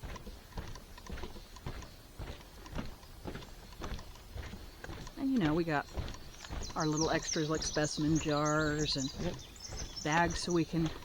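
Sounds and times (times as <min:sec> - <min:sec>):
footsteps on a trail: 0:00.0 - 0:11.0.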